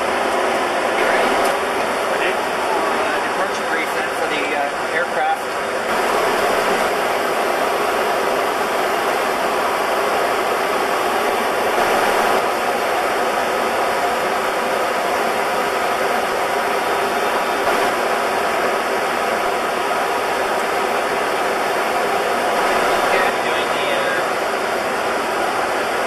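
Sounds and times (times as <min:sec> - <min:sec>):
cockpit airflow and engine noise: 0:00.0 - 0:26.0.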